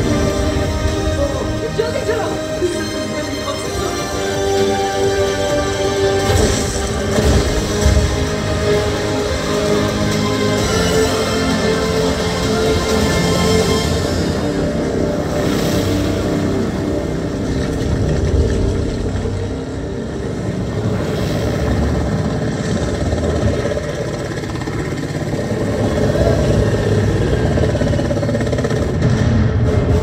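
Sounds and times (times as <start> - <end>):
helicopter engine rumble: 0.0 - 30.0.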